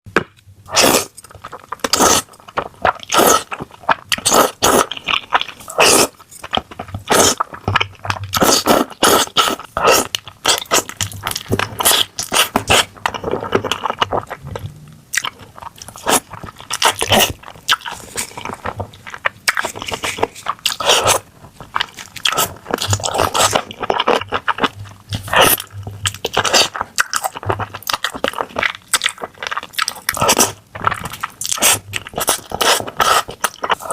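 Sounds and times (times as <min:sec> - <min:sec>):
person chewing with crunches: 0:00.2 - 0:33.9.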